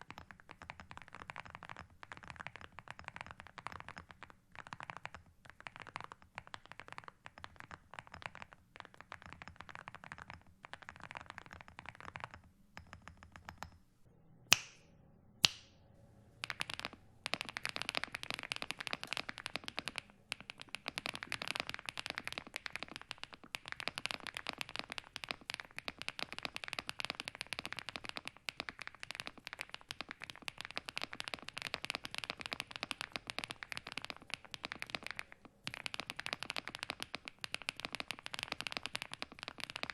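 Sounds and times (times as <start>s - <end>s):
loud sharp keyboard clacks: 0.0s - 13.7s, 16.4s - 39.9s
fast mechanical keyboard typing: 0.0s - 13.8s, 16.4s - 39.9s.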